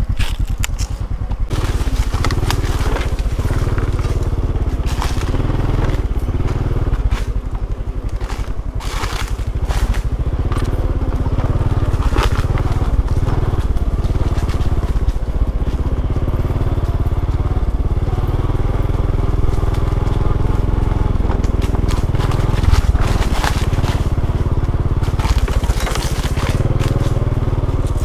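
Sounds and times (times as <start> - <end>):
crackling and crunching: 0.0 - 16.1, 17.9 - 28.0
small motorcycle engine running: 0.0 - 28.0.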